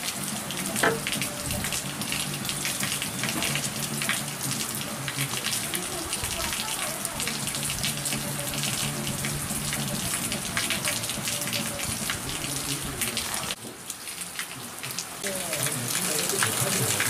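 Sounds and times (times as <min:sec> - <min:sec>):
heavy rain on foliage: 0:00.0 - 0:17.0.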